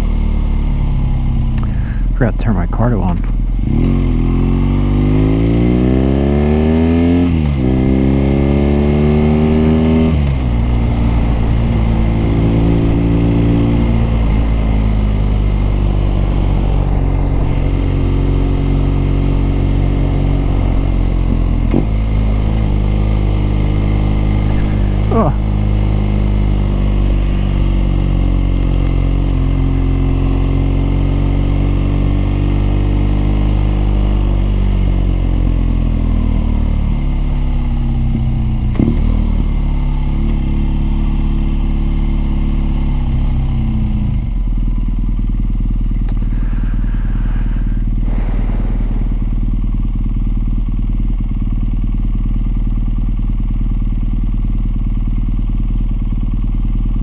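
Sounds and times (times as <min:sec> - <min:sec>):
motorcycle engine slowing to idle: 0:00.0 - 0:57.0.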